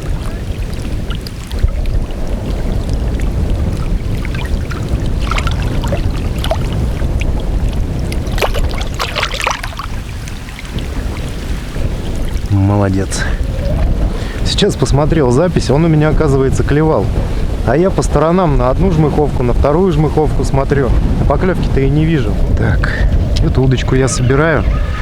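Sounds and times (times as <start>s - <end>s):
water splashing at bank: 0.0s - 20.9s
wind buffeting microphone: 0.0s - 25.0s.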